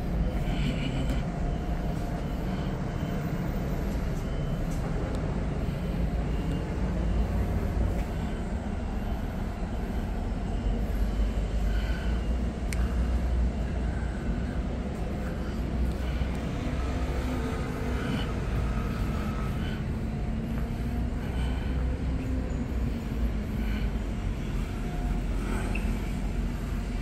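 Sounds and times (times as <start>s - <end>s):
distant vehicles rumbling: 0.0s - 27.0s.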